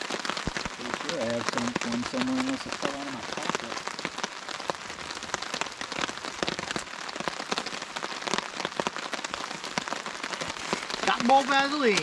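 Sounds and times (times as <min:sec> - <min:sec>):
raindrops tapping on a tarp: 0:00.0 - 0:12.0
steady rain: 0:00.0 - 0:12.0.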